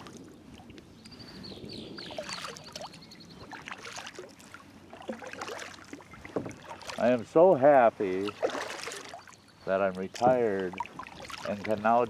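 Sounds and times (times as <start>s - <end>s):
kayak paddle splashing water: 0.0s - 1.1s, 2.0s - 12.0s.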